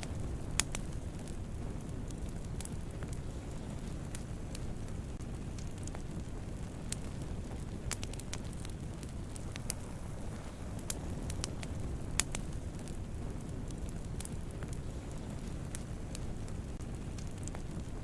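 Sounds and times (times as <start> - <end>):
campfire rumble: 0.0 - 18.0
fire crackling and popping: 0.0 - 18.0.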